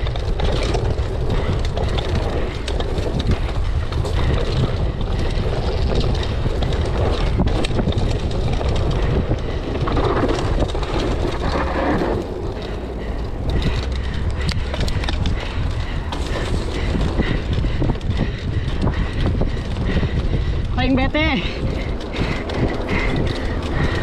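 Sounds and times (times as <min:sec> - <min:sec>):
mountain bike rattling: 0:00.0 - 0:24.0
tyres on dirt trail: 0:00.0 - 0:24.0
wind rumble on microphone: 0:00.0 - 0:24.0.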